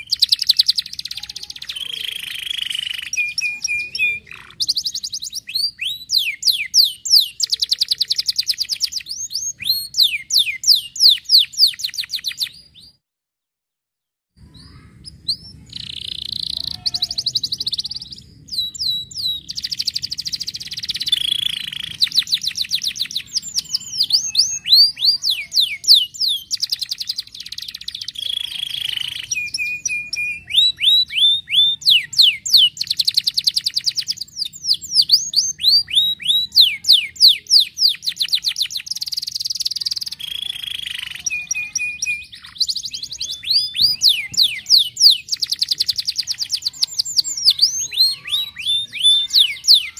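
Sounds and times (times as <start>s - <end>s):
canary singing trills: 0.0s - 13.0s, 14.4s - 49.9s.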